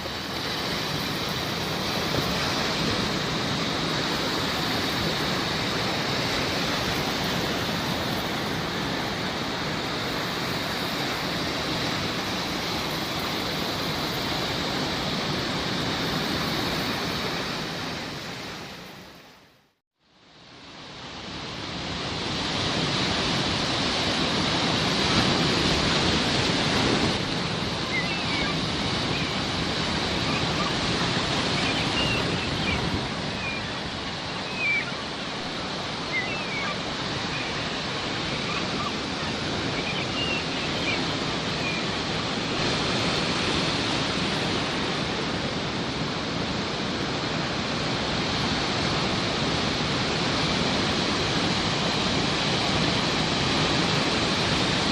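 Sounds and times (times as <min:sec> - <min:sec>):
sea waves washing on shore: 0:00.0 - 0:19.6, 0:20.2 - 0:54.9.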